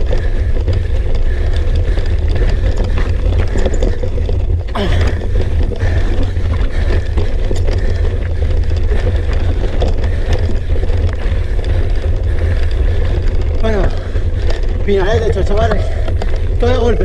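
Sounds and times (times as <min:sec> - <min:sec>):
bike clicks and rattles: 0:00.0 - 0:17.0
bike rumbling over rocky ground: 0:00.0 - 0:17.0.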